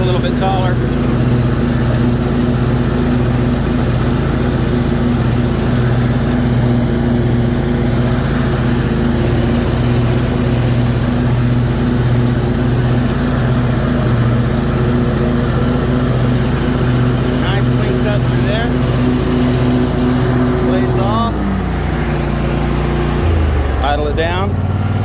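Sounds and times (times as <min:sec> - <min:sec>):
mower blades cutting grass: 0:00.0 - 0:25.0
riding mower engine running: 0:00.0 - 0:25.0.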